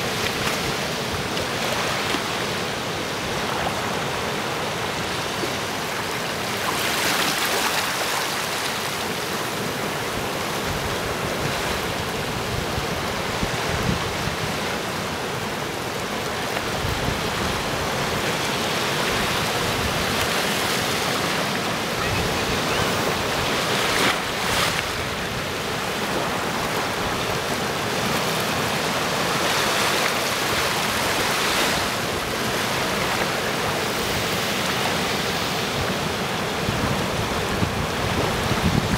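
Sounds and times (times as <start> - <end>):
waves washing over rocks: 0.0 - 38.9.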